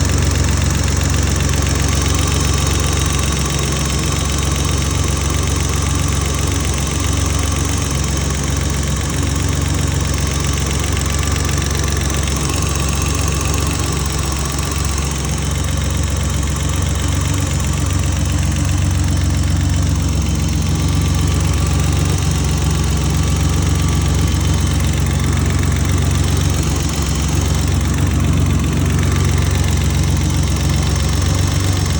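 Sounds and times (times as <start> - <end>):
car engine idling: 0.0 - 31.9
light engine tick: 0.0 - 31.9.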